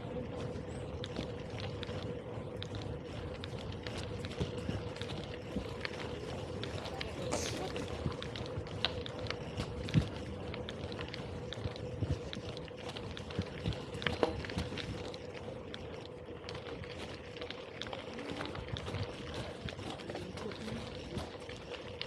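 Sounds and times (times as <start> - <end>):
bike rattling: 0.0 - 22.0
faint steady hum: 0.0 - 22.0.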